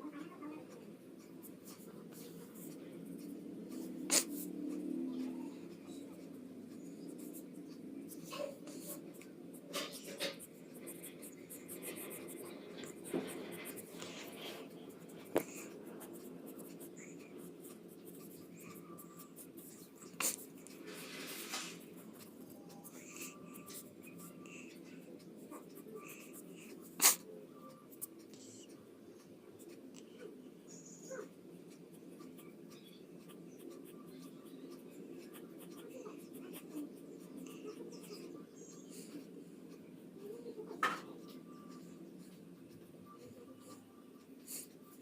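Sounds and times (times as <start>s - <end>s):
pencil scratching on paper: 0.7s - 29.8s, 30.7s - 39.4s.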